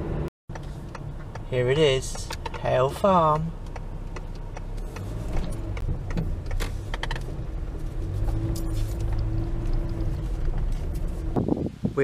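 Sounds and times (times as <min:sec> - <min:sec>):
car engine running low: 0:00.0 - 0:11.8.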